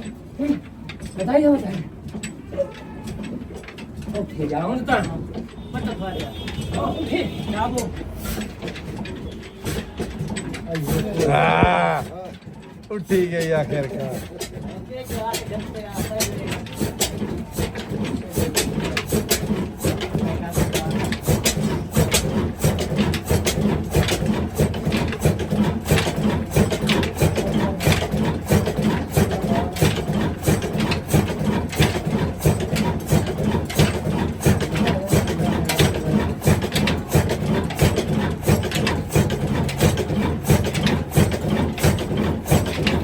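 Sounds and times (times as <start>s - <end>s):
diesel engine knocking: 0.0s - 43.0s.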